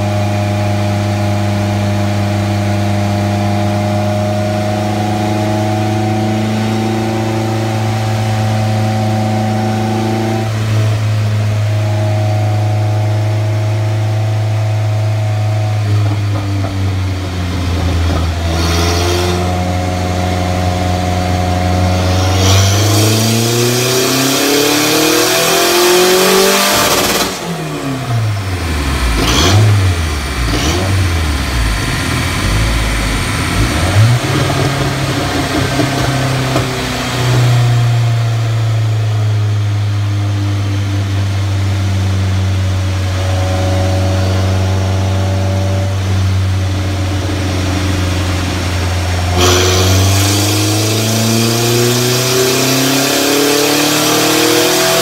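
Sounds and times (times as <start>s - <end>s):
turbocharged car engine on dyno: 0.0s - 55.0s.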